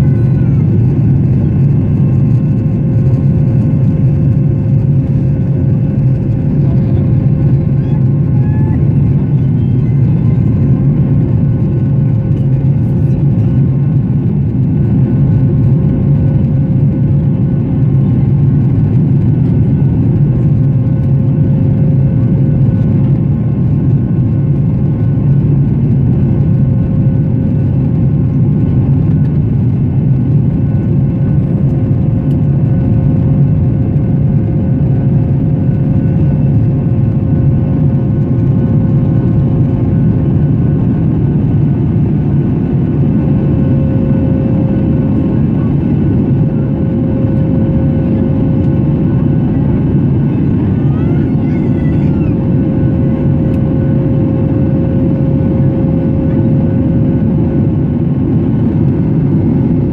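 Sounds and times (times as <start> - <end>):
jet engines at climb thrust: 0.0 - 59.9.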